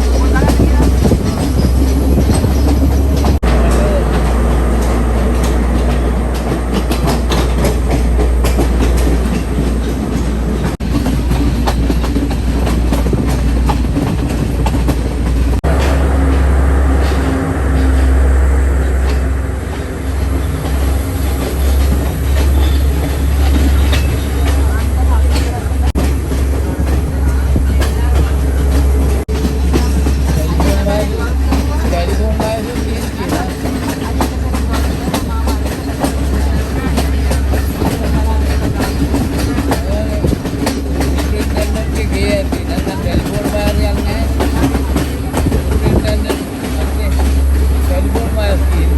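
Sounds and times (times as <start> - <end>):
train carriage rumbling: 0.0 - 48.9
wheels clicking over rail joints: 0.0 - 48.9.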